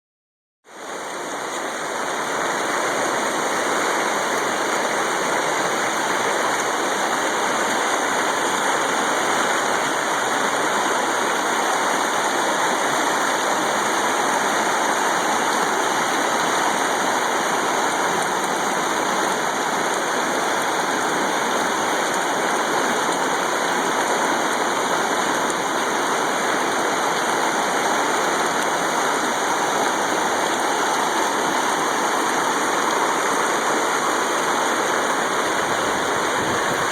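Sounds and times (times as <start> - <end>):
floodwater rushing: 0.7 - 36.9.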